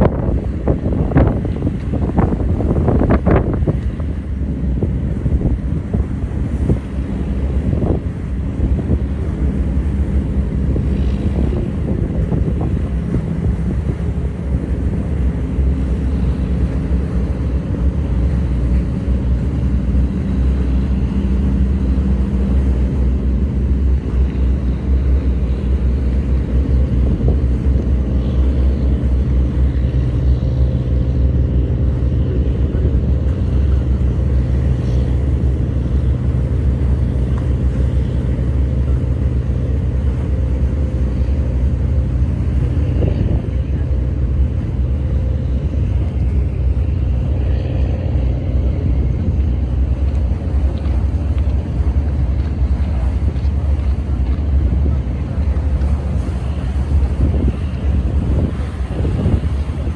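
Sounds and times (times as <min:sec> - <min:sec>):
boat diesel engines droning: 0:00.0 - 0:59.9.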